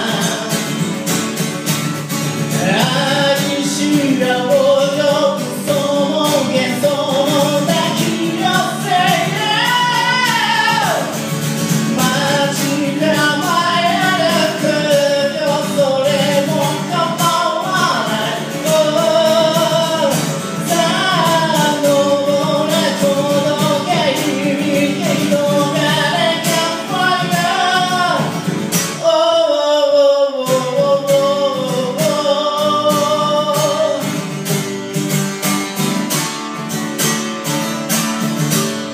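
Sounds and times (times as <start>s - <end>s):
person singing: 0.0s - 1.6s, 2.4s - 34.6s
strummed acoustic guitar: 0.0s - 38.9s.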